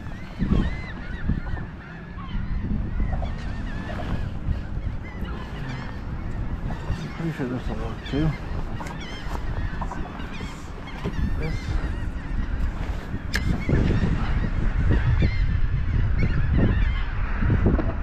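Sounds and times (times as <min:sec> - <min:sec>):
birds honking: 0:00.0 - 0:17.7
dense low rumble: 0:00.0 - 0:18.0.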